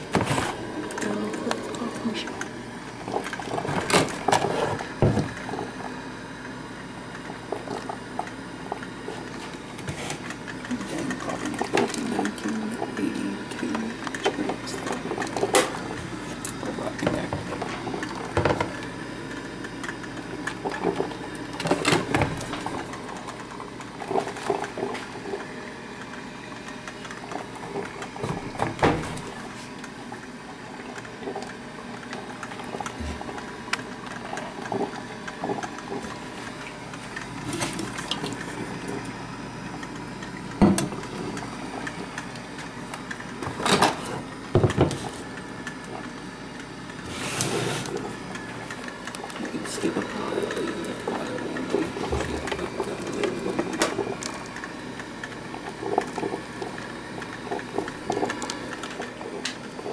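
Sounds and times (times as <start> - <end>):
coffee maker bubbling: 0.0 - 59.9.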